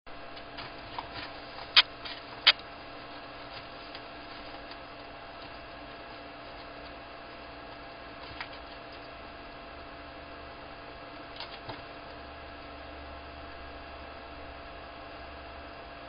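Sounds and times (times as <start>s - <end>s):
steady hum and hiss: 0.1s - 16.0s.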